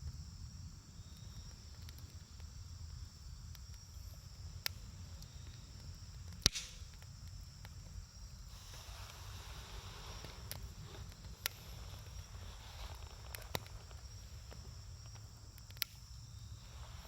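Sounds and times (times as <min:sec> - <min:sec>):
campfire crackling: 0:00.0 - 0:17.0
fire pops: 0:00.0 - 0:17.0
low rumble of fire: 0:00.0 - 0:17.0.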